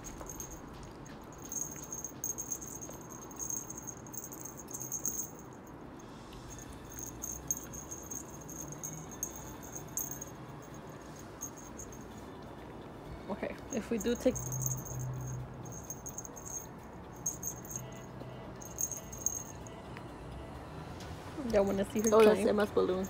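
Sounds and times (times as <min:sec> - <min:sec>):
small bell jingling: 0:00.0 - 0:05.8, 0:06.5 - 0:12.3, 0:13.7 - 0:19.8, 0:21.6 - 0:23.0.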